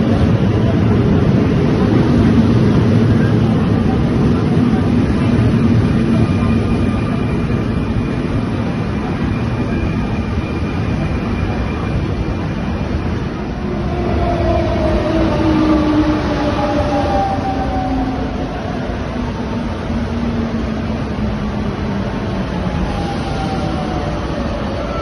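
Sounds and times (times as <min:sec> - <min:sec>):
electric train passing at speed: 0:00.0 - 0:25.0.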